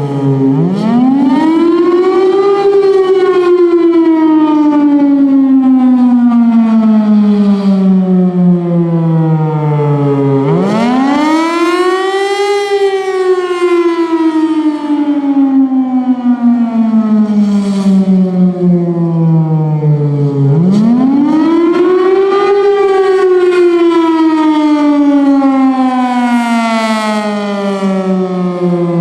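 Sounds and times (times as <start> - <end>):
warning siren wailing: 0.0 - 29.0.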